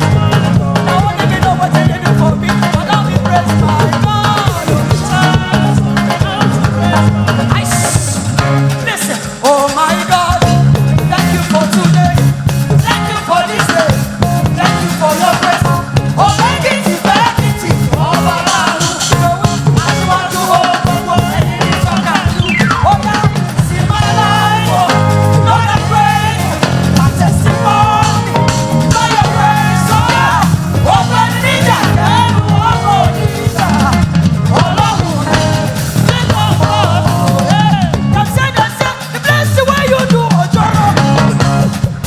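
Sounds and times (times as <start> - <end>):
band with drums and bass: 0.0 - 42.0
person singing lead vocal: 0.0 - 42.0.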